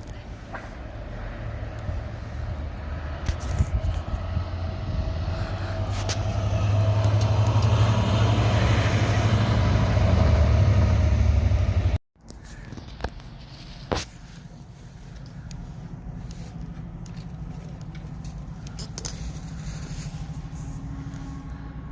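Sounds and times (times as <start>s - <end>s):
train engine rumbling: 0.0s - 21.9s.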